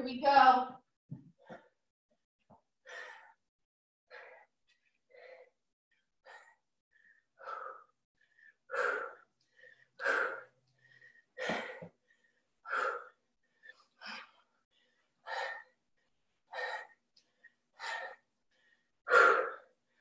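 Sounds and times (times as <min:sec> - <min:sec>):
person breathing hard: 0:02.8 - 0:03.5, 0:04.1 - 0:20.0.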